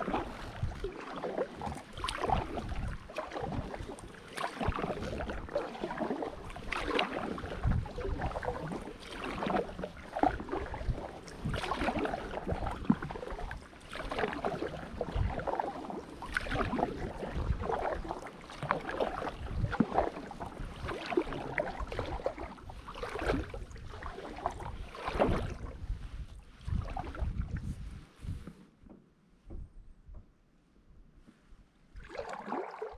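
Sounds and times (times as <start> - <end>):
paddle strokes splashing water: 0.0 - 28.6, 32.0 - 32.9.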